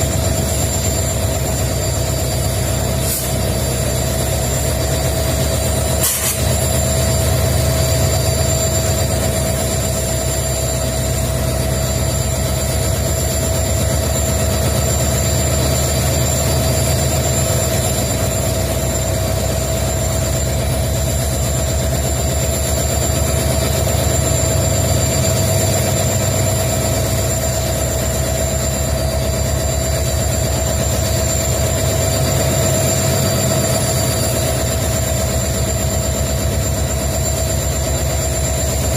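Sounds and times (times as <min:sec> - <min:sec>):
diesel locomotive engines idling: 0:00.0 - 0:38.9
high-pitched whine: 0:00.0 - 0:38.9.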